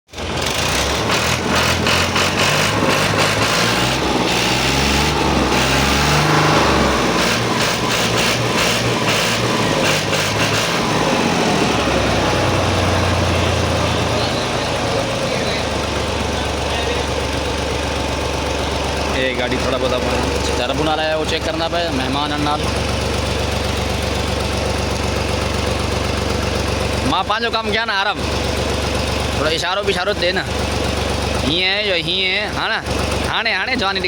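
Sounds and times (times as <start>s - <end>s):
lorry engine running: 0.1s - 34.0s.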